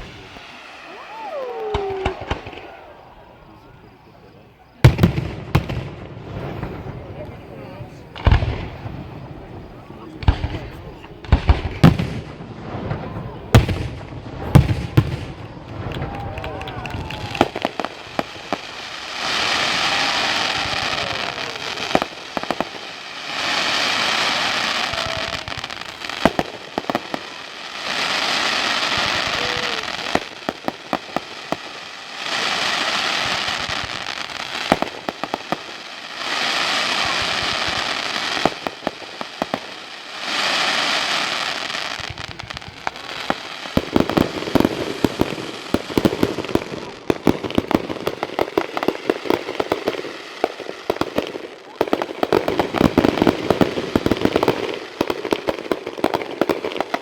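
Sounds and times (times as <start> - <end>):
fireworks crackling pops: 0.0 - 57.0
fireworks hissing bursts: 0.0 - 57.0.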